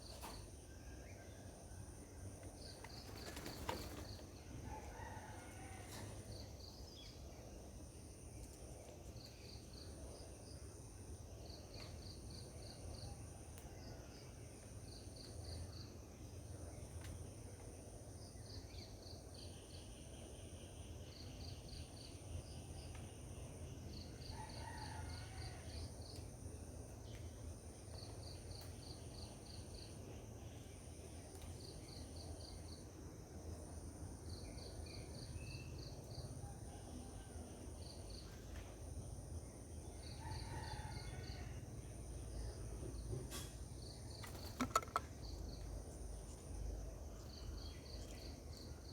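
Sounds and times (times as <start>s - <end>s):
faint insects chirping: 0.0s - 48.9s.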